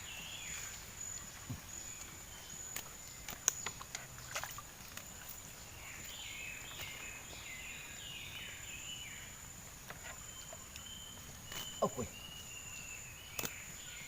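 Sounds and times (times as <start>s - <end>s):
high insect whine: 0.0s - 14.0s.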